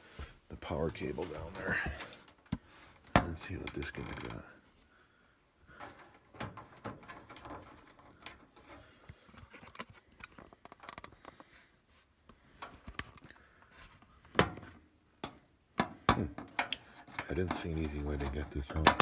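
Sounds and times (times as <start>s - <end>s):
hands handling dryer parts: 0.0s - 4.4s, 5.6s - 19.0s.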